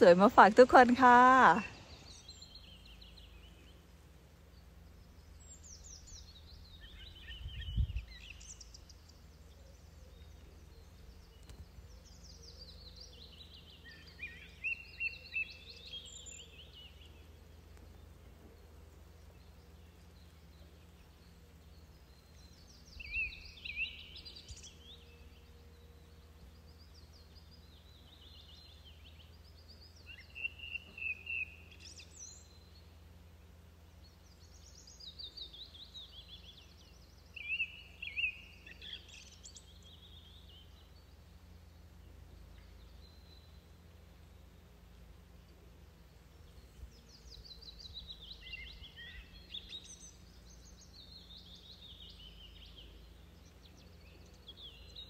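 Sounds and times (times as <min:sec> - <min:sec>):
low outdoor rumble: 0:00.0 - 0:55.0
songbird singing: 0:00.0 - 0:55.0.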